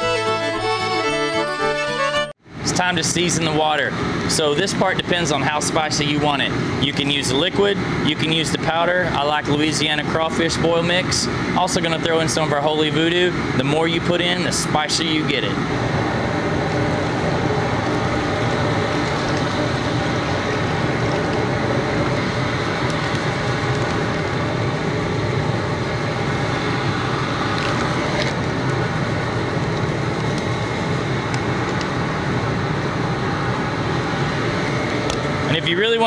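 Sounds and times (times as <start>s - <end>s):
propane burners rumbling: 2.4s - 36.0s.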